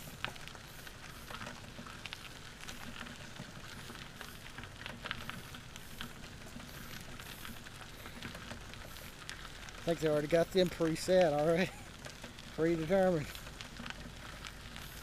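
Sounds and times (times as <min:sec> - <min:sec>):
tyres rolling on a trail: 0:00.0 - 0:15.0.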